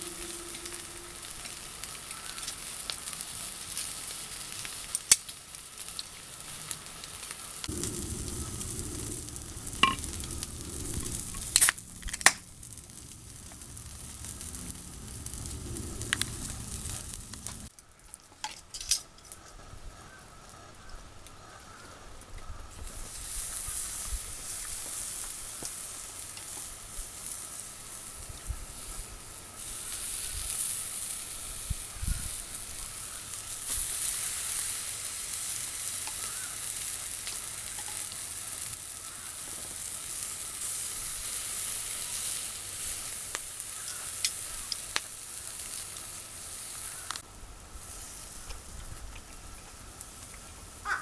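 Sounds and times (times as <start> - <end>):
food sizzling as it fries: 0.0 - 17.7, 22.8 - 51.0.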